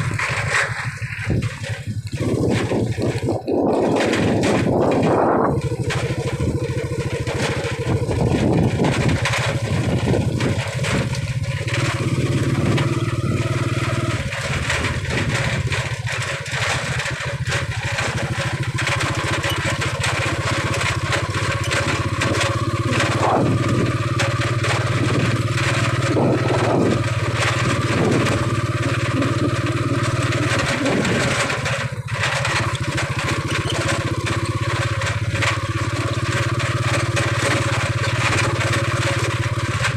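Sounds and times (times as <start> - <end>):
small motorcycle engine running: 0.0 - 39.9.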